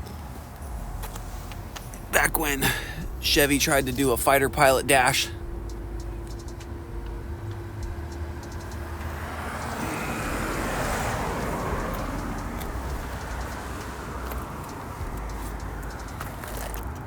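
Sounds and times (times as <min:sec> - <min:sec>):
engine idling rumble: 0:00.0 - 0:17.0.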